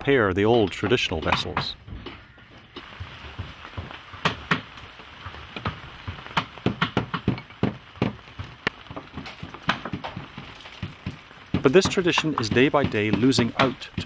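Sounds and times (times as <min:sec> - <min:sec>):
rope taps and rasps: 0:00.4 - 0:14.0.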